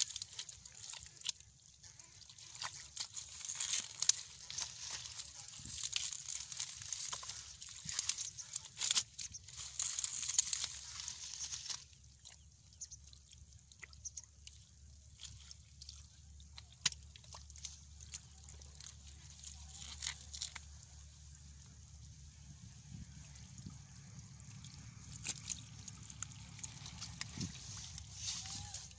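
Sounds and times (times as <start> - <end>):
crinkly rustling of plants: 0.0 - 28.9
wet mud squishes and drips: 0.0 - 28.9.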